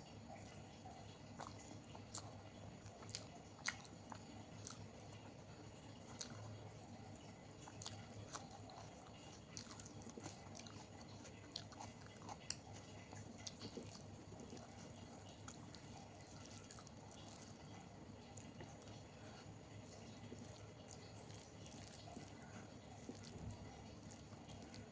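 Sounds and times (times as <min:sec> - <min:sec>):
person chewing soft wet food: 0:00.0 - 0:24.9.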